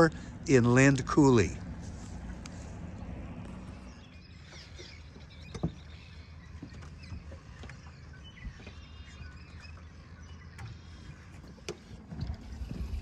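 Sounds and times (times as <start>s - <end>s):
low steady rumble: 0.0s - 13.0s
swallows twittering: 0.0s - 13.0s.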